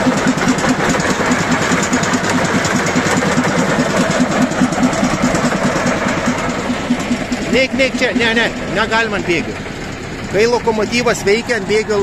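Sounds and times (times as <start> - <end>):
diesel locomotive engine idling: 0.0 - 12.0.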